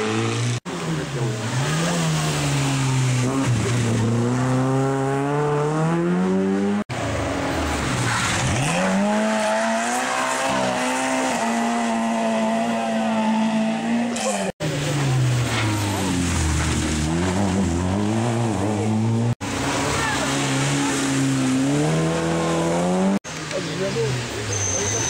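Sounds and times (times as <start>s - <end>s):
rally car engines accelerating: 0.0s - 25.0s.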